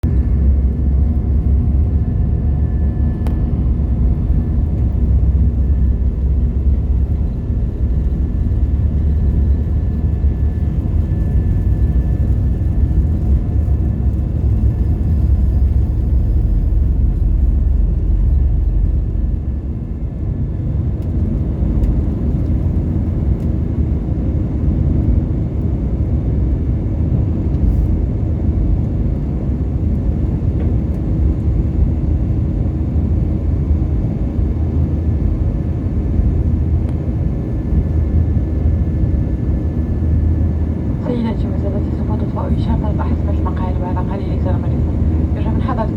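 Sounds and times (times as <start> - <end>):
jet engine rumble and rushing air: 0.0 - 45.9.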